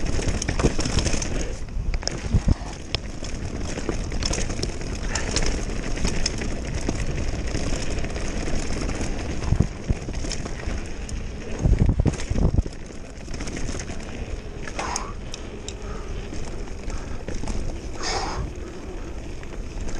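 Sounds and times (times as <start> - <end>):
bike rattling and clicking: 0.0 - 19.9
bike thumping over bumps: 0.0 - 19.9
bike tyres rumbling on dirt: 0.0 - 19.9
wind buffeting microphone: 0.0 - 19.9.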